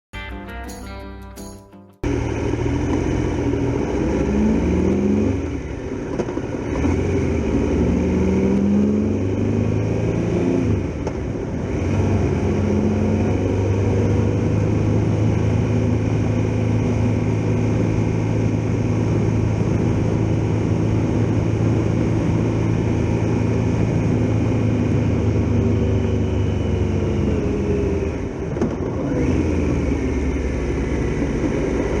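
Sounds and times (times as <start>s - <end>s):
motorcycle engine revving: 2.0s - 32.0s.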